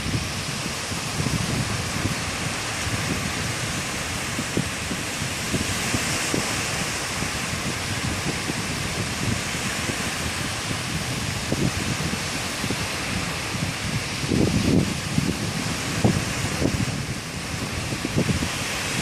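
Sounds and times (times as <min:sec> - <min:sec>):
sea surf washing onto beach: 0:00.0 - 0:19.0
wind buffeting microphone: 0:00.0 - 0:19.0.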